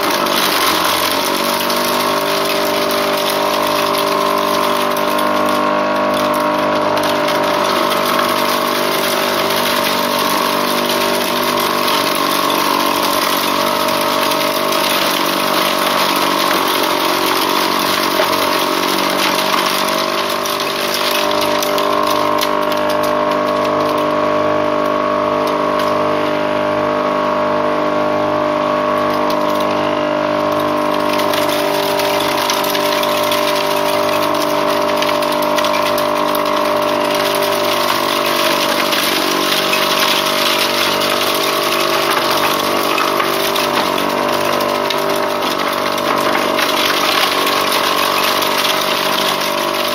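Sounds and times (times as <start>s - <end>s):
corn sheller rushing noise: 0.0s - 49.9s
motor hum: 0.0s - 49.9s.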